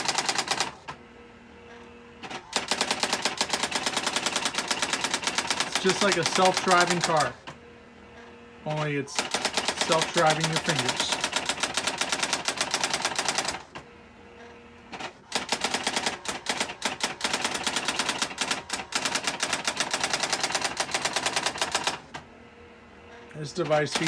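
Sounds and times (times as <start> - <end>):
electronic typewriter printing: 0.0 - 1.0, 2.2 - 7.6, 8.7 - 13.9, 14.9 - 22.2, 23.5 - 24.0.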